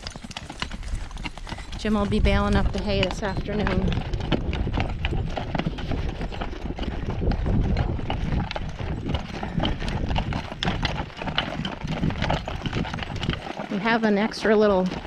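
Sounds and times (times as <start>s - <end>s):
horse hoofbeats on packed dirt: 0.0s - 15.0s.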